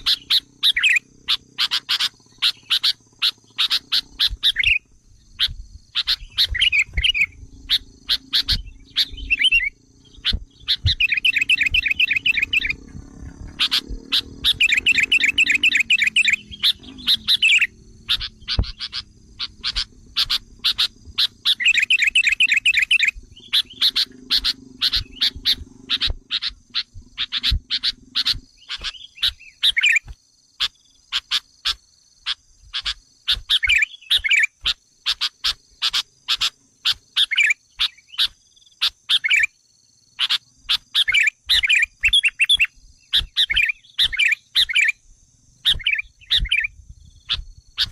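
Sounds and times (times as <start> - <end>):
bird chattering and chirping: 0.0 - 45.0, 45.6 - 47.9.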